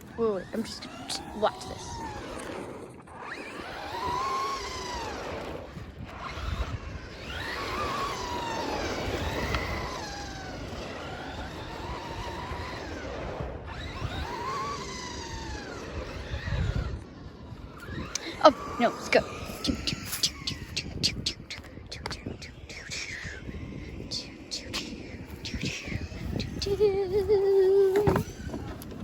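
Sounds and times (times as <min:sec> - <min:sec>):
race car engines revving: 0:00.0 - 0:29.0.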